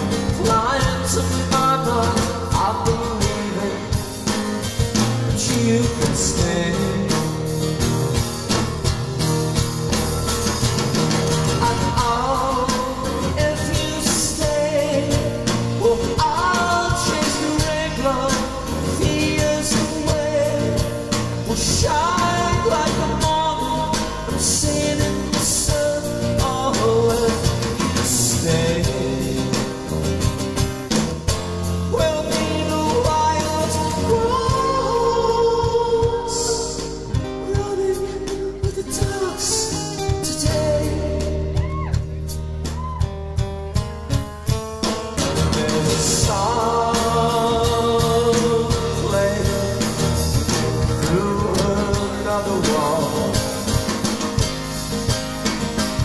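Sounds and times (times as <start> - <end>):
man singing: 0.0 - 8.2, 11.4 - 30.4, 31.6 - 42.4, 45.1 - 54.4
rock band playing: 0.0 - 56.0.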